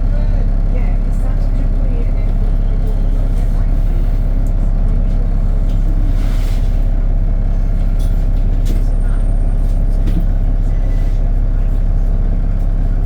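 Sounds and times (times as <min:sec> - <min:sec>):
engine idling with cooling fan: 0:00.0 - 0:13.0.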